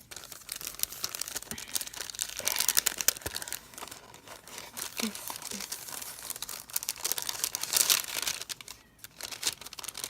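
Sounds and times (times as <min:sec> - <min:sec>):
packaging bags crinkling: 0:00.0 - 0:10.0.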